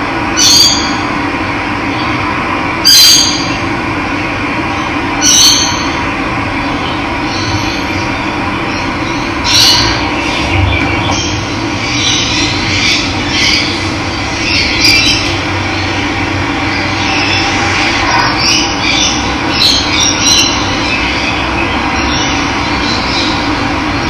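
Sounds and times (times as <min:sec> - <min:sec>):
wild birds calling: 0:00.0 - 0:24.0.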